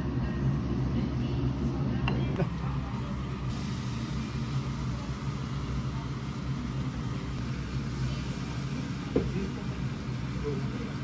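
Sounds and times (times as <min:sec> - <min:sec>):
room noise hum: 0:00.0 - 0:11.0.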